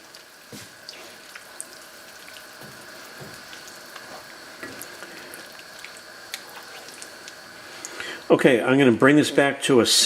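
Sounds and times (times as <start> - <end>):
liquid sizzling in a hot pan: 0.0 - 8.3.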